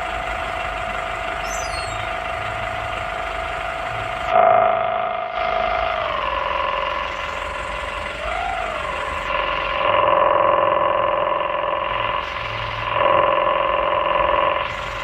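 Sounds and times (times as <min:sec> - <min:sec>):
excavator machine whine: 0:00.0 - 0:15.0.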